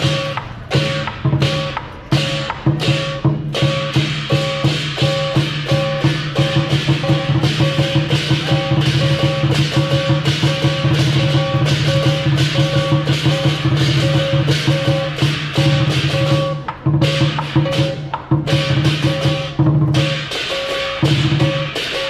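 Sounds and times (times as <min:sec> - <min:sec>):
cymbals ringing: 0:00.0 - 0:22.0
drum beating: 0:00.0 - 0:22.0
gong ringing: 0:00.0 - 0:22.0.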